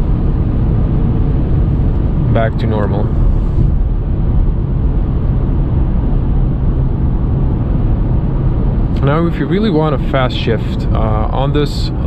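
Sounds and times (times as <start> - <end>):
engine drone: 0.0 - 12.0
road noise: 0.0 - 12.0
wind noise: 0.0 - 12.0.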